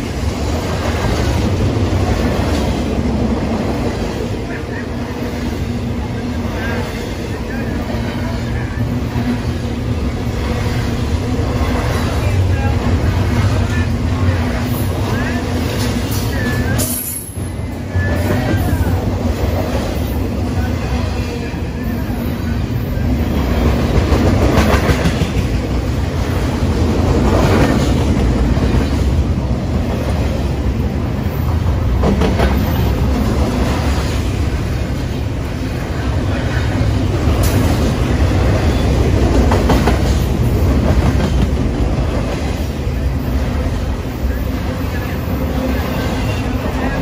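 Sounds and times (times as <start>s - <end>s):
train wheels rumbling on rails: 0.0s - 47.0s
clickety-clack over rail joints: 0.7s - 17.5s, 22.8s - 47.0s.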